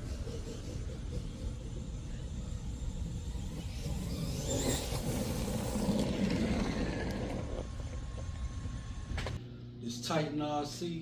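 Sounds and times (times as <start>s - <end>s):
rc truck driving: 0.0s - 9.4s
tyre and ground noise: 0.0s - 9.4s
high motor whine: 0.0s - 9.8s
steady low rumble: 0.0s - 10.0s.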